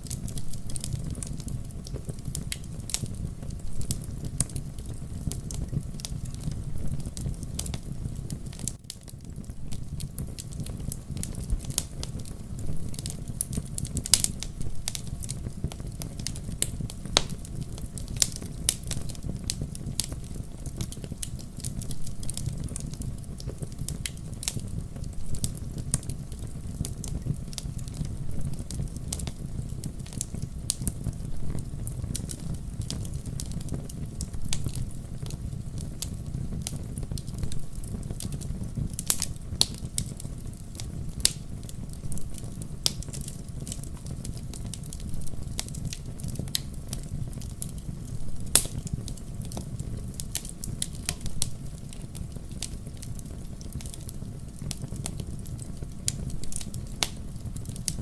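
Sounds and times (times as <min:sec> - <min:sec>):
campfire popping and snapping: 0:00.0 - 0:58.0
low rumble of burning fire: 0:00.0 - 0:58.0.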